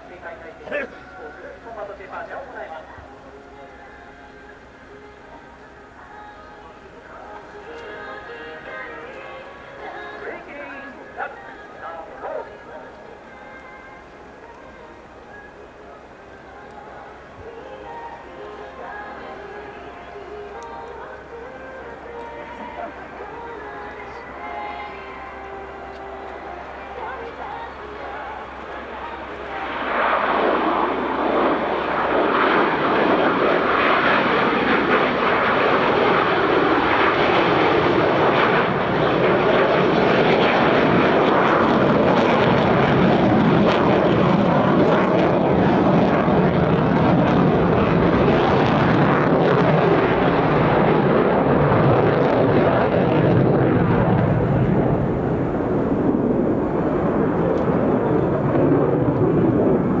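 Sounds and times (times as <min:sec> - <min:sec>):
fighter jets flying over: 0:07.1 - 1:00.0.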